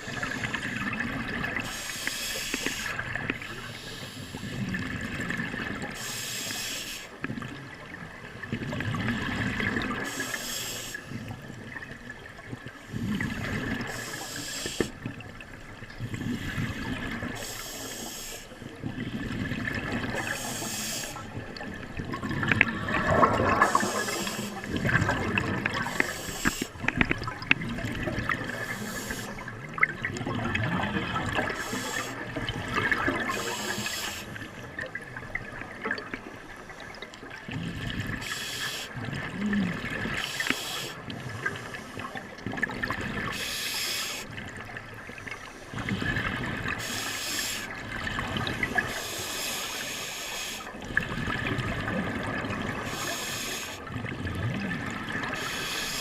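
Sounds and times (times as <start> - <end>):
water sloshing and splashing: 0.0 - 6.5, 7.1 - 10.4, 18.4 - 55.9.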